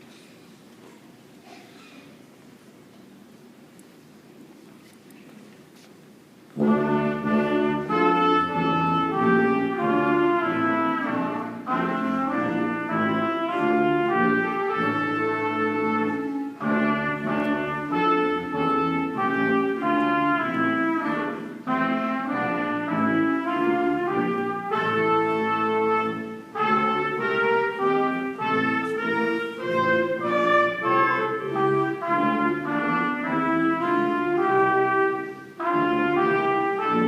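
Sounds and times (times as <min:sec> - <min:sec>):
brass band playing: 0:06.6 - 0:37.0.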